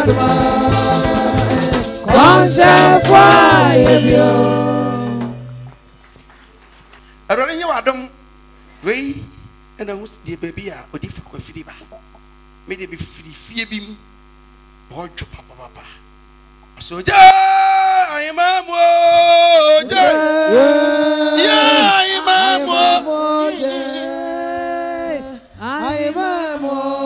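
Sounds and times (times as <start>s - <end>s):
mains hum: 0.0s - 27.0s.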